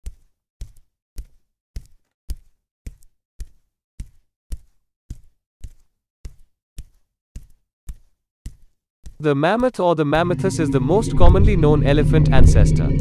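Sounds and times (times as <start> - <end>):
footsteps walking: 0.0 - 10.7.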